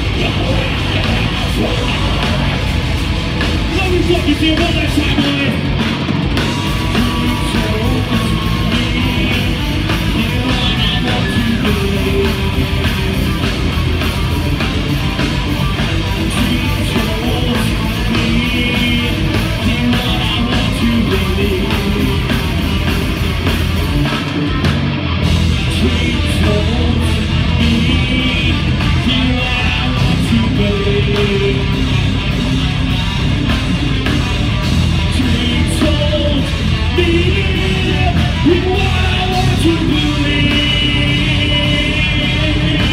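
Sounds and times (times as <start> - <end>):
vocalist singing: 0.0 - 5.8, 6.5 - 13.8, 16.0 - 23.5, 25.6 - 32.3, 35.0 - 42.9
bass guitar: 0.0 - 42.9
dense drumming: 0.0 - 42.9
distorted electric guitars: 0.0 - 42.9.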